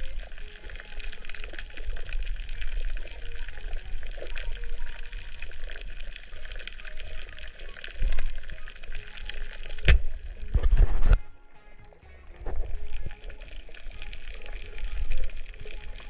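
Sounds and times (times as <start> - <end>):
underwater crackle of clicks: 0.0 - 16.0.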